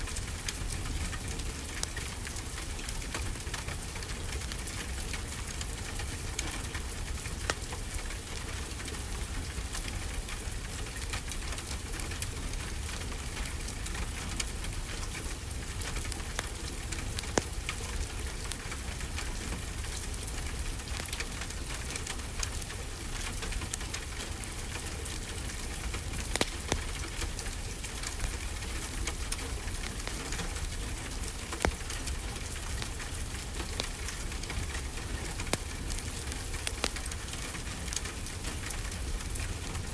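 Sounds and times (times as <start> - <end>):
steady rainfall: 0.0 - 39.9
wood fire crackling: 0.0 - 39.9.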